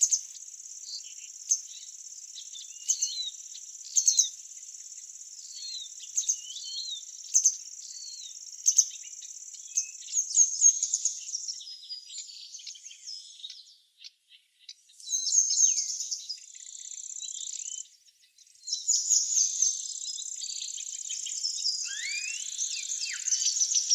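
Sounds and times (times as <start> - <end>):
songbirds chirping: 0.0 - 23.9.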